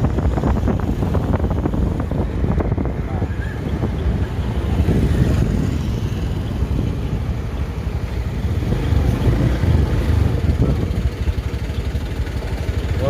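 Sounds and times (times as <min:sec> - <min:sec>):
wind buffeting microphone: 0:00.0 - 0:12.9
engine rumbling unevenly: 0:00.0 - 0:13.0.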